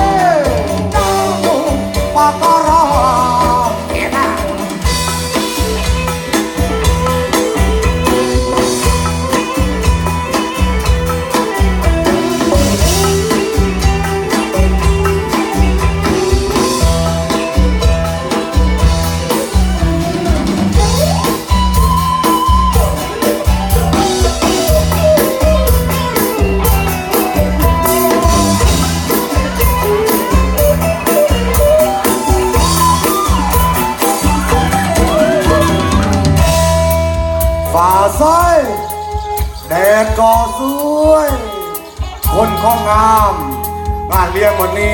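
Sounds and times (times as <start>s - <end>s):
drum and bass beat: 0.0s - 44.9s
lead melody with bent note: 0.0s - 44.9s
live band playing: 0.0s - 44.9s.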